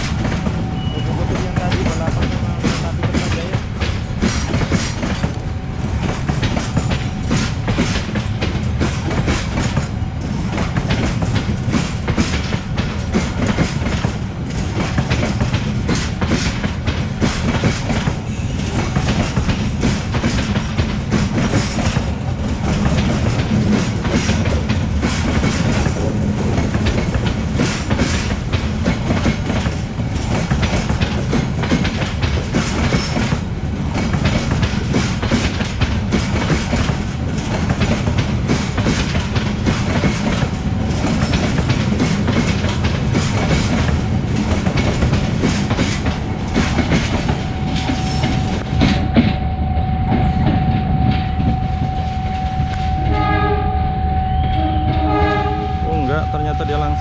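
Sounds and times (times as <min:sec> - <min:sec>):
train wheels clattering over rail joints: 0:00.0 - 0:49.5
train rumble: 0:00.0 - 0:57.0.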